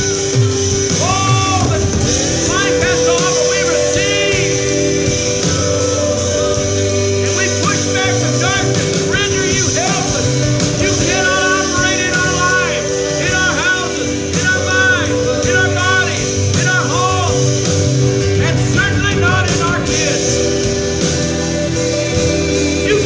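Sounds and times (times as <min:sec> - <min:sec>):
guitar: 0:00.0 - 0:23.0
person singing: 0:00.0 - 0:23.0
sustained instruments: 0:00.0 - 0:23.0.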